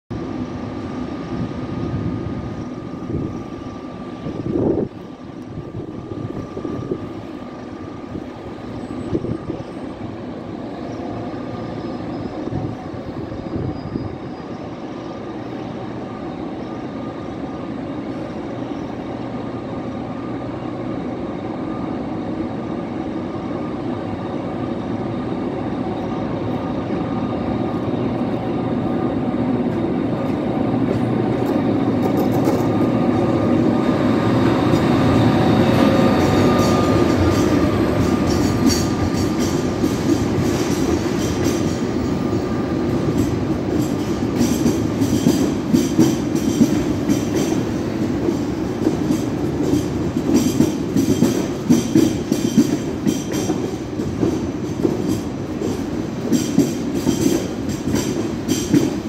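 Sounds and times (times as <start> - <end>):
electric locomotive humming: 0.1 - 59.0.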